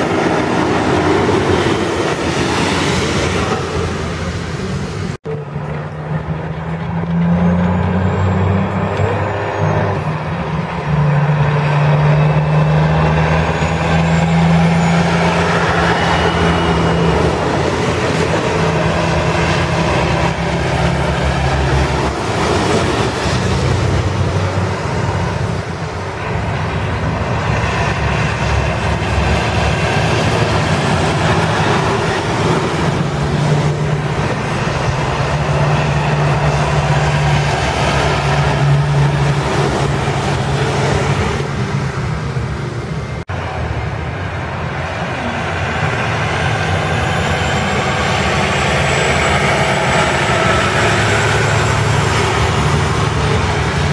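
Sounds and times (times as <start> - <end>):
truck diesel engines droning: 0.0 - 53.9.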